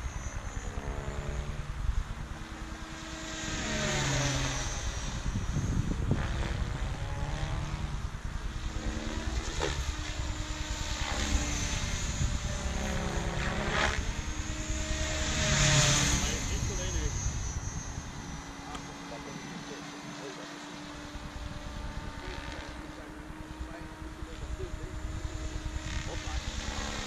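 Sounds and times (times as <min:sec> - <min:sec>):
rc helicopter rotor buzz: 0:00.0 - 0:27.0.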